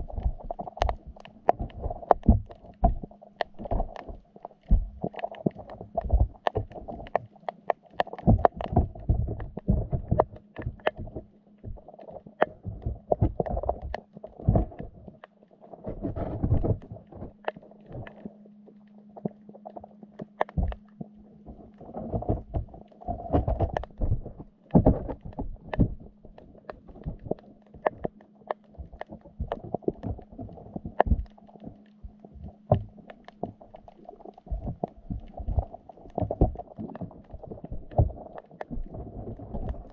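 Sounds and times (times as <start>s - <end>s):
low underwater thumps and knocks: 0.0s - 7.1s, 8.2s - 11.9s, 12.5s - 15.1s, 15.8s - 18.1s, 20.5s - 20.8s, 21.4s - 28.0s, 28.8s - 39.9s
steady low hum: 0.0s - 39.9s.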